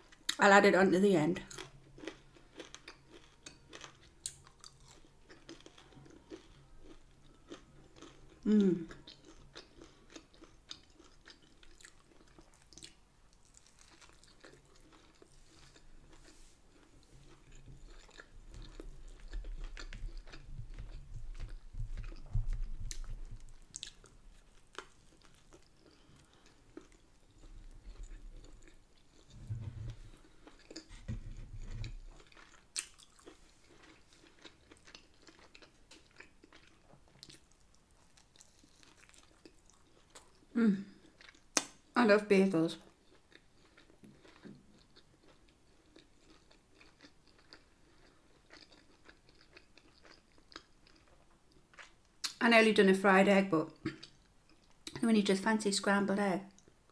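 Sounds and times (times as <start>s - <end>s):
chewing and biting food: 1.4s - 41.8s, 42.8s - 52.4s.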